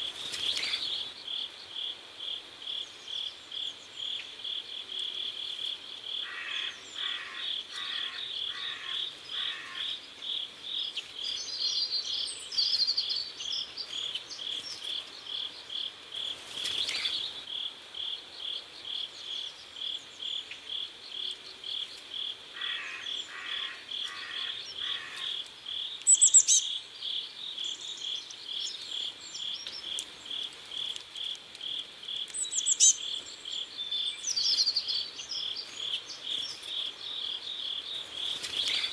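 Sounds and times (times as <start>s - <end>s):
bird chirping: 5.4s - 17.6s, 18.3s - 38.9s.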